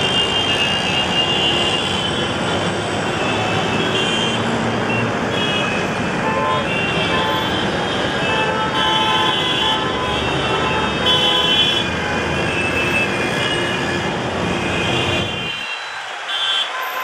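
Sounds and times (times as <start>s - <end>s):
vehicle horns honking: 0.0s - 2.4s, 3.1s - 17.0s
road traffic noise: 0.0s - 17.0s.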